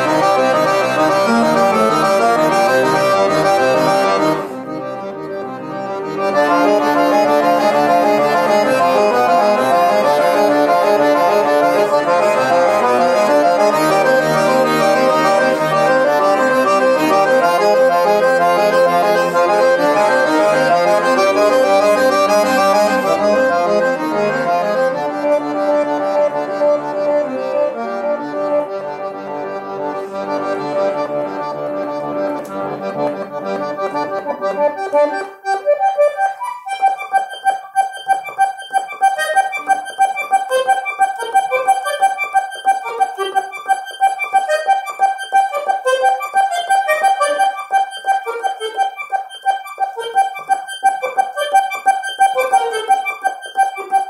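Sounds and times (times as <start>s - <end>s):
accordion playing chords: 0.0s - 54.0s.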